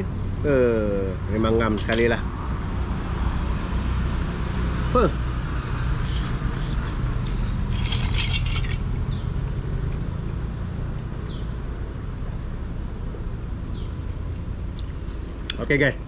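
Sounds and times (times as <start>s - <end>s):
high insect drone: 0.0s - 16.0s
road traffic rumble: 0.0s - 16.0s.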